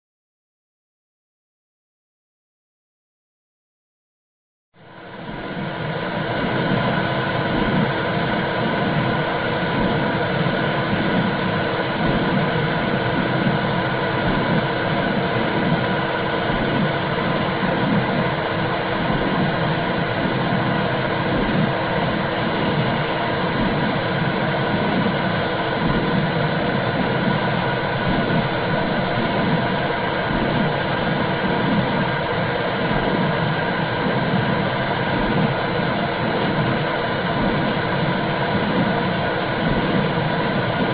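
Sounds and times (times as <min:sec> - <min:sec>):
low heartbeat-like pulse: 0:05.1 - 0:40.9.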